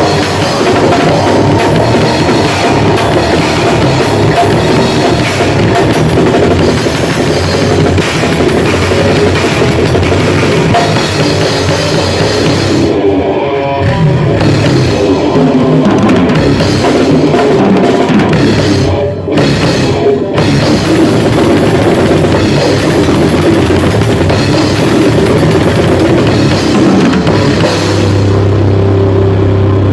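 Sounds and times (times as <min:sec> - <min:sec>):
drum kit: 0:00.0 - 0:29.9
grindcore band playing: 0:00.0 - 0:29.9.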